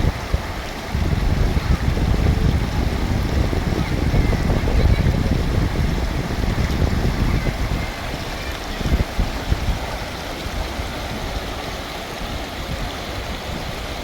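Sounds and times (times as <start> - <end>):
river water rushing: 0.0 - 14.0
wind buffeting microphone: 0.0 - 14.0.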